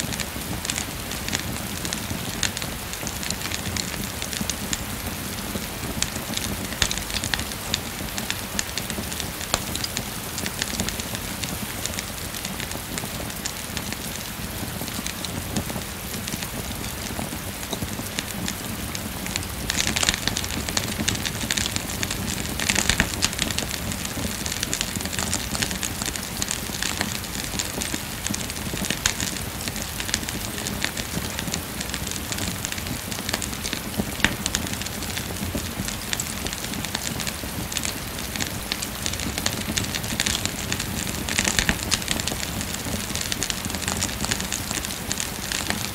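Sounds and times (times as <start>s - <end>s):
steady rain falling: 0.0s - 45.9s
wood fire crackling and popping: 0.0s - 45.9s.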